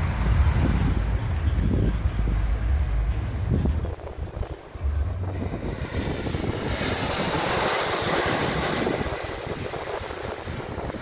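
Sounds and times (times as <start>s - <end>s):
airliner flying low overhead: 0.0s - 11.0s
high jet engine whine: 0.0s - 11.0s.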